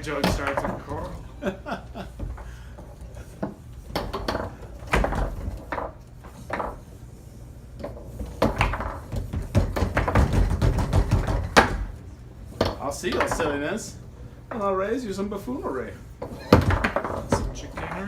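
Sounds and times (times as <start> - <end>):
foosball hitting rods and table: 0.0 - 7.0, 7.7 - 13.7, 16.2 - 18.0.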